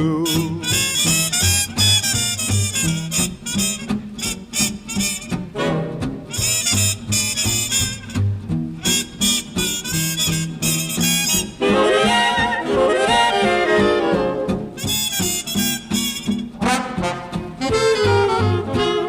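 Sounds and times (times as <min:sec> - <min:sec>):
brass and saxophone chords: 0:00.0 - 0:19.0
swing big band: 0:00.0 - 0:19.0
walking bass: 0:00.0 - 0:19.0.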